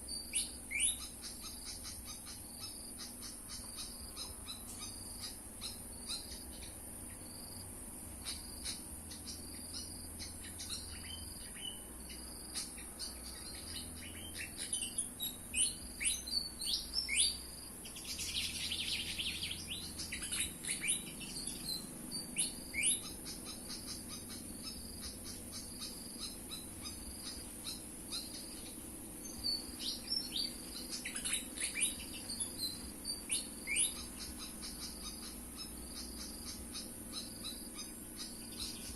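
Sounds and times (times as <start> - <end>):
high insect drone: 0.0 - 38.9
sharp downward-sweeping bird chirps: 0.0 - 38.9
harsh bird chattering: 0.4 - 7.2, 8.1 - 38.9.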